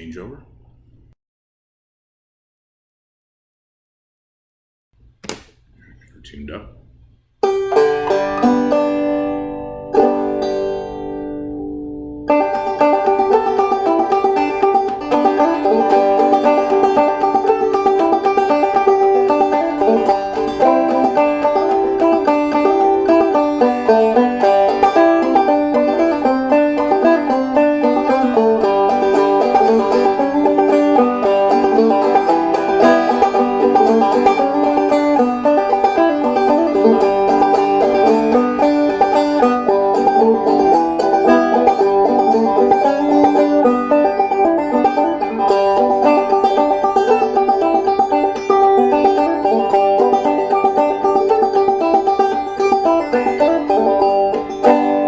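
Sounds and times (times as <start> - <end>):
banjo plucked notes: 7.4 - 55.0.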